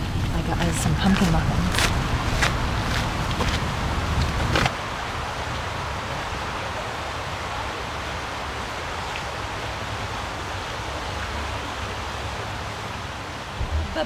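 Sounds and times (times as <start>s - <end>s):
mountain brook flowing water: 0.0s - 14.0s.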